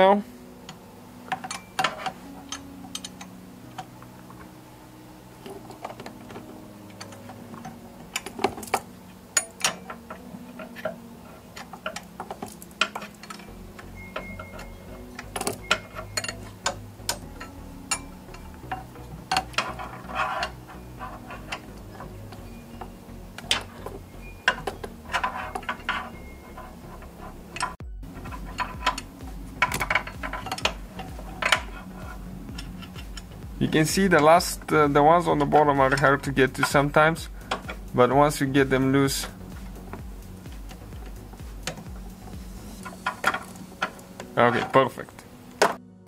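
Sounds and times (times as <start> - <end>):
wrench clinking on metal bolts: 0.7 - 4.0, 5.4 - 44.8.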